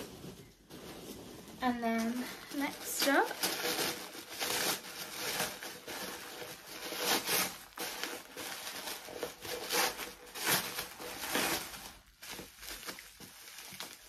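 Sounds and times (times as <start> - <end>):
wrapping paper rustling: 0.0 - 14.0.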